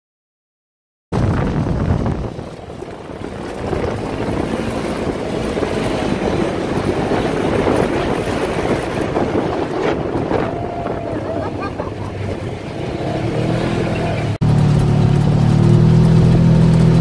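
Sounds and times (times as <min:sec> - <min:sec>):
off-road vehicle engine running: 0:01.2 - 0:17.0.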